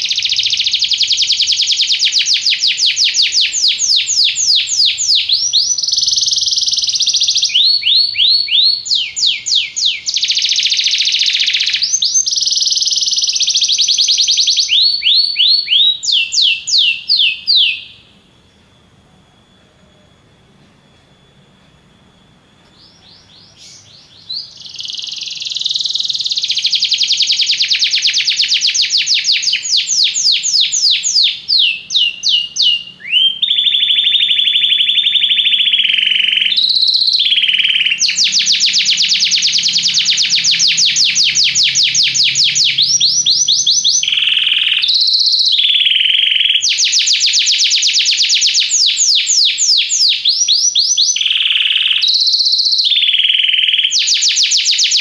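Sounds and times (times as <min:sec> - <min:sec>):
canary singing trills: 0:00.0 - 0:18.8, 0:22.6 - 0:55.0.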